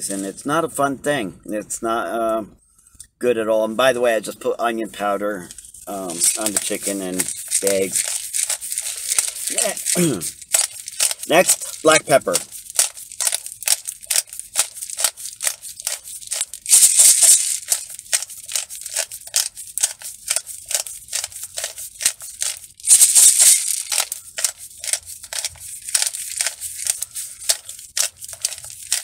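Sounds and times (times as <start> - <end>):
pepper grinder crunching peppercorns: 5.5 - 29.0.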